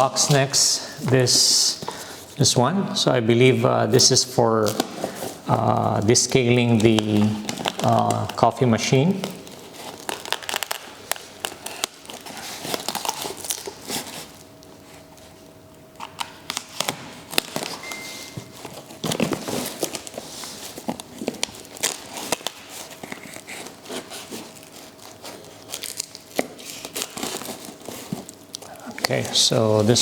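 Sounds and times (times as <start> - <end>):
packaging crinkling and tearing: 3.9 - 30.0.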